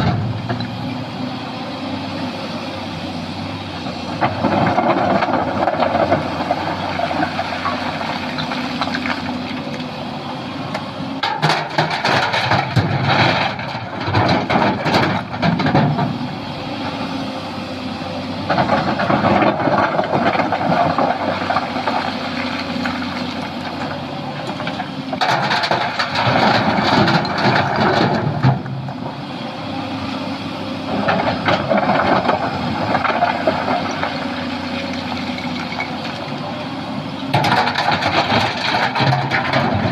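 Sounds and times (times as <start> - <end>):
excavator engine under load: 0.0 - 39.9.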